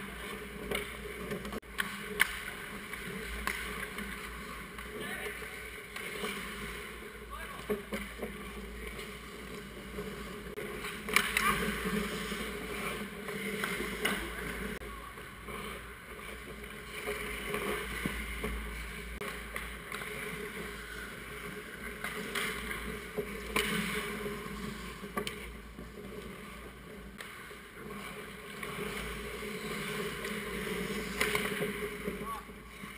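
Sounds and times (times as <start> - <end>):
hockey sticks and puck clacking: 0.0 - 32.9
skate blades scraping ice: 0.0 - 32.9.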